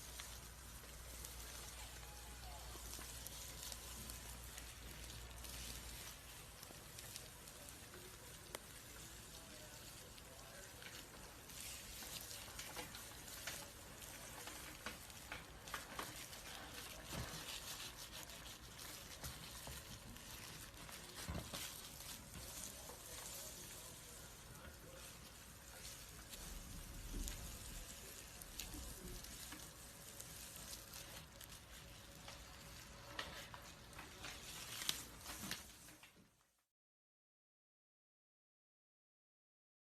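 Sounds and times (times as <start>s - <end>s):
dry skin crackling and rustling: 0.0s - 36.6s.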